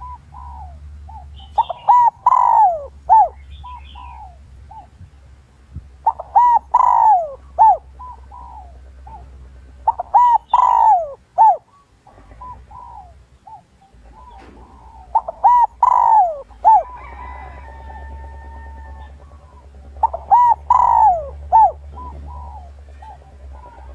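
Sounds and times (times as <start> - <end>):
dove cooing: 0.0 - 5.1, 5.7 - 23.9.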